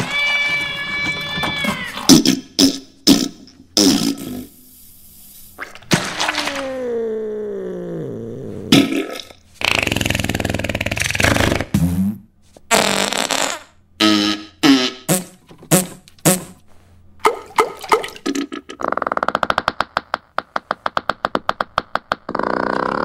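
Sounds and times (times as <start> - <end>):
comic fart sound effects: 2.0 - 4.8, 5.6 - 16.6, 18.2 - 23.0.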